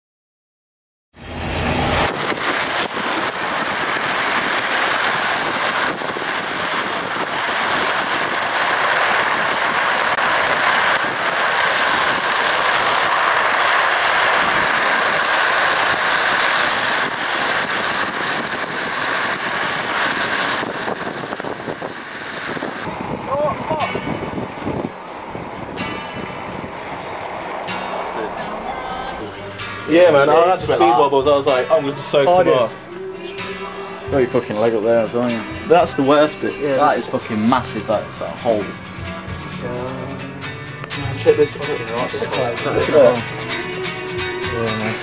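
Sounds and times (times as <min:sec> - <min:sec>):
car road and wind noise: 0:01.2 - 0:45.0.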